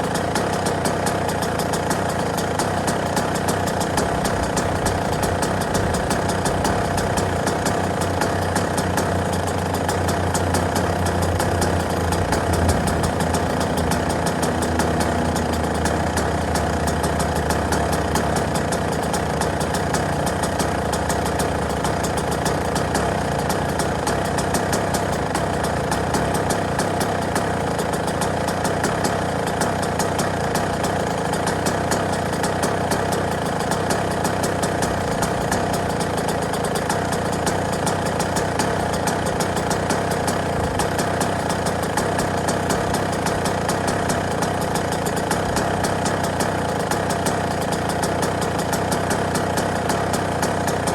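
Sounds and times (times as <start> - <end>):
two-stroke engine idling: 0.0 - 50.9.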